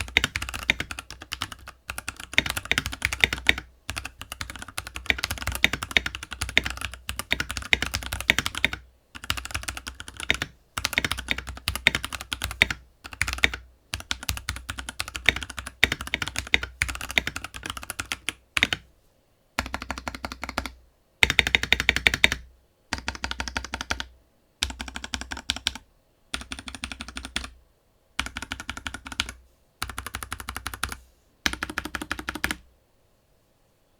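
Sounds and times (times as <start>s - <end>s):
mechanical keyboard typing: 0.0s - 18.8s, 19.6s - 27.6s, 28.2s - 32.6s.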